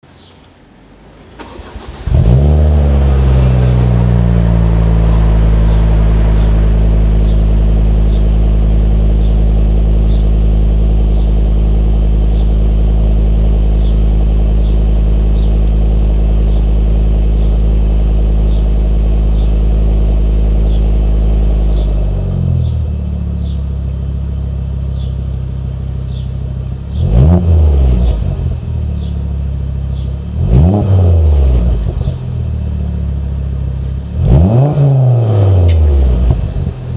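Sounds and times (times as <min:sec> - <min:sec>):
car engine starting and idling: 0:00.8 - 0:36.9
engine rev: 0:01.4 - 0:36.9.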